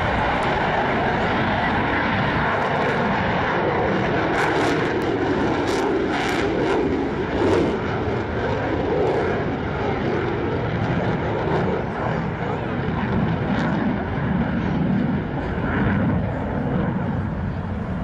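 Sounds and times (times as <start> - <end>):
fighter jet engine rush: 0.0 - 18.0.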